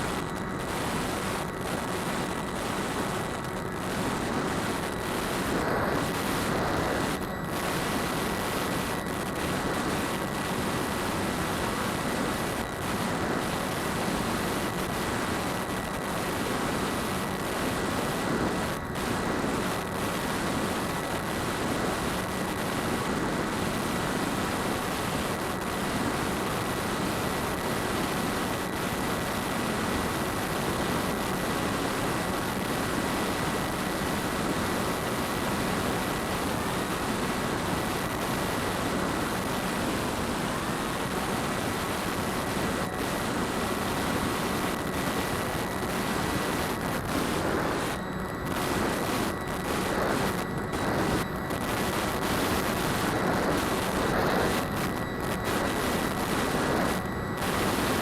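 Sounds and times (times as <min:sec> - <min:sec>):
quadcopter motors and propellers: 0:00.0 - 0:58.0.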